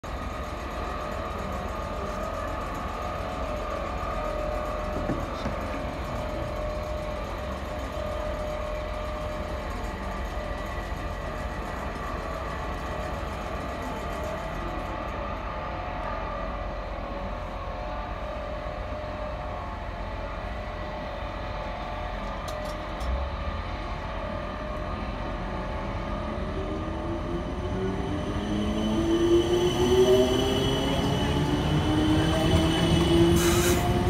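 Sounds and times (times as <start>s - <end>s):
electric train humming: 0.0s - 34.0s
train traction whine: 0.0s - 34.0s.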